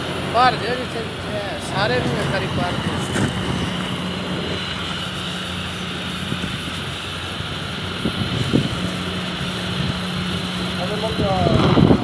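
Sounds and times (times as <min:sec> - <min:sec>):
low hum: 0:00.0 - 0:12.0
welding torch flame hissing: 0:00.0 - 0:12.0.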